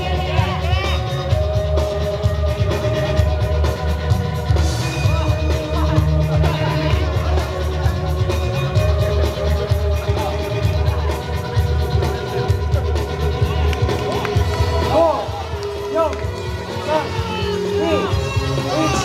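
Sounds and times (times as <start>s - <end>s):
loud music with heavy bass: 0.0s - 19.0s.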